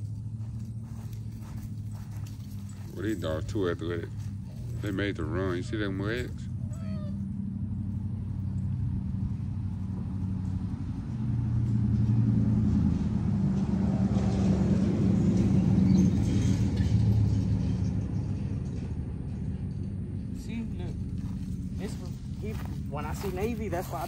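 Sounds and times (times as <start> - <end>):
vehicle engine driving: 0.0 - 24.0.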